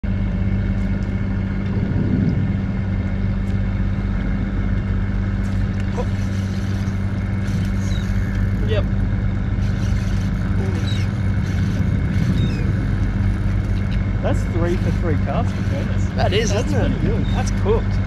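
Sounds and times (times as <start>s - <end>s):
boat engine idling: 0.0s - 18.0s
water noise: 0.0s - 18.0s
wind: 0.0s - 18.0s.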